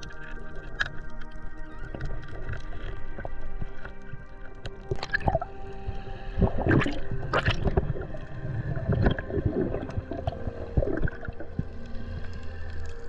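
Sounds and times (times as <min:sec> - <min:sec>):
water gurgling and splashing: 0:00.0 - 0:13.0.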